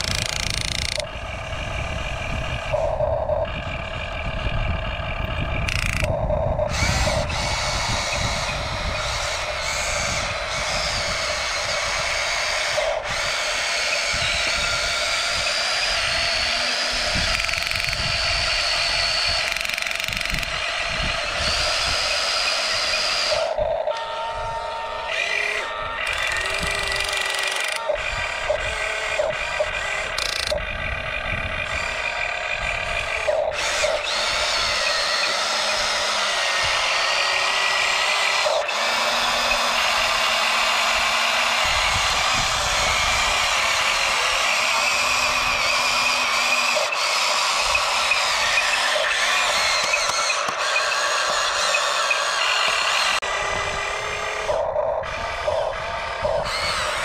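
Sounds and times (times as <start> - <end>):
electric gear motors whining: 0.0 - 57.0.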